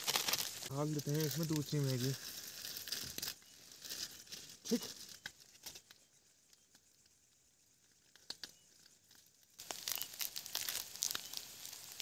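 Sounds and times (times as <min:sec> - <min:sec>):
plastic wrapper crinkling and tearing: 0:00.0 - 0:06.0, 0:08.0 - 0:12.0.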